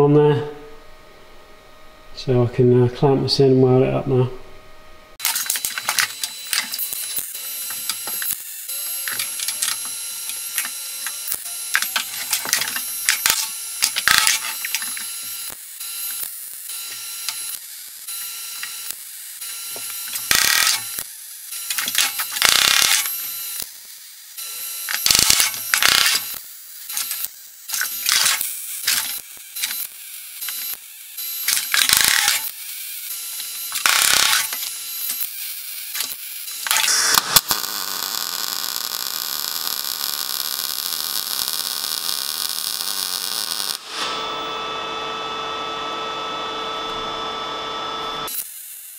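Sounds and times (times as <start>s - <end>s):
welder arc crackling: 5.1s - 44.5s.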